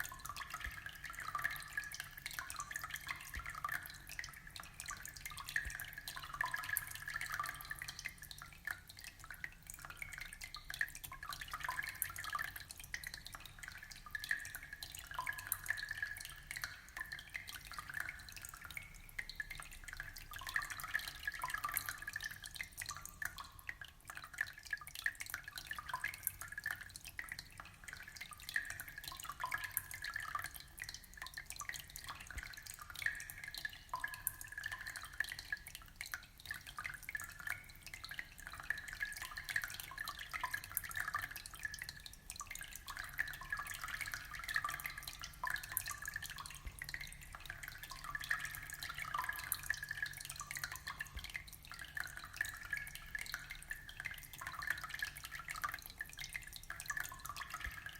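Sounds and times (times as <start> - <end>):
aquarium water trickling: 0.0 - 57.9.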